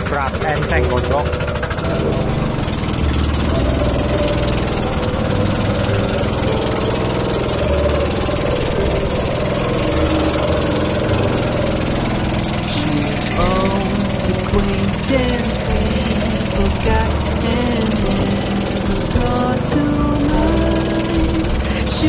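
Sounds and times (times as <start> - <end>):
small boat engine running: 0.0 - 22.0.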